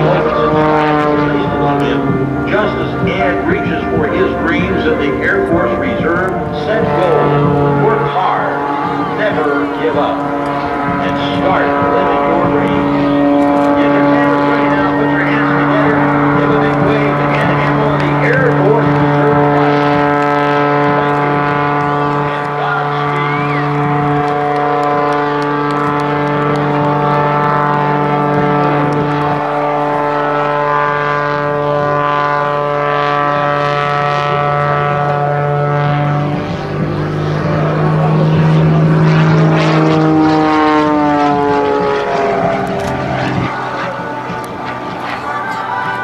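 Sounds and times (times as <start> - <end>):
biplane engine and propeller droning: 0.0 - 46.0.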